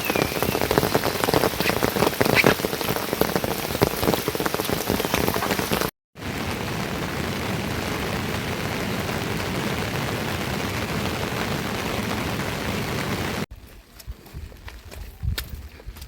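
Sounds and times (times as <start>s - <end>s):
water rushing: 0.0s - 13.5s.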